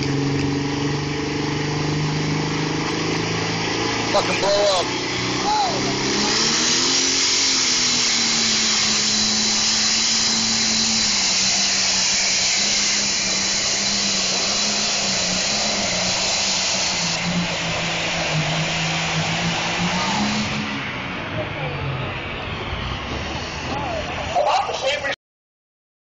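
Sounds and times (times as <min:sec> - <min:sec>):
diesel engine roaring: 0:00.0 - 0:25.2.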